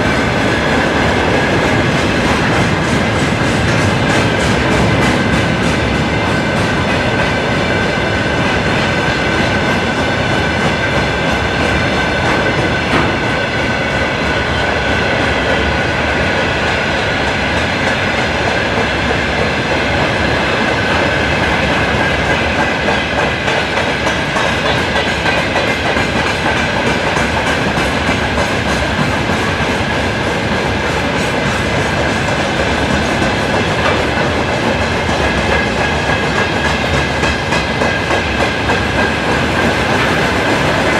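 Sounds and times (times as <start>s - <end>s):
diesel locomotive engines running: 0.0s - 40.9s.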